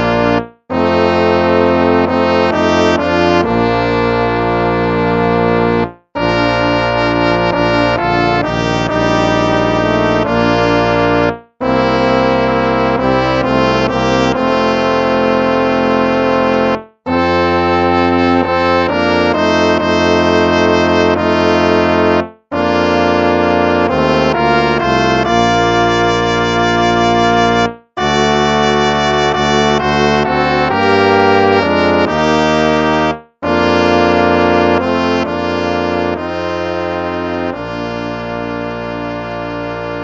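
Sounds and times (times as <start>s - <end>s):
brass playing hymn chords: 0.0s - 40.0s.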